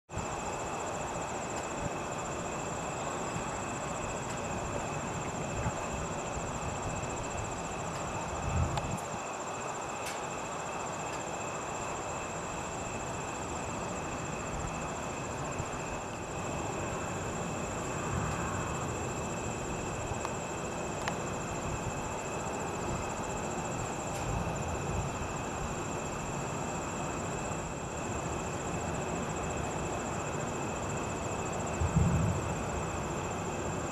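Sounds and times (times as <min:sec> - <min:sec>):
insects chirring: 0:00.1 - 0:33.9
rumbling hiss: 0:00.1 - 0:33.9.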